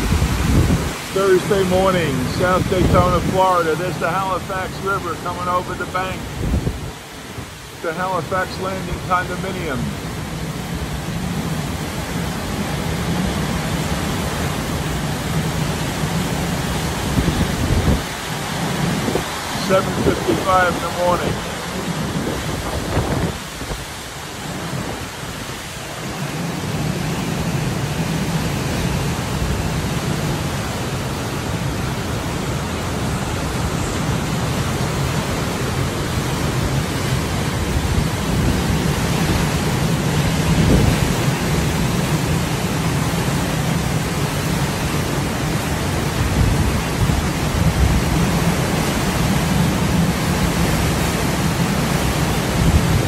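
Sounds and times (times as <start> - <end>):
wind rumble on microphone: 0.0 - 3.6, 5.7 - 7.6, 9.1 - 53.0
strong wind and heavy rain: 0.0 - 53.0.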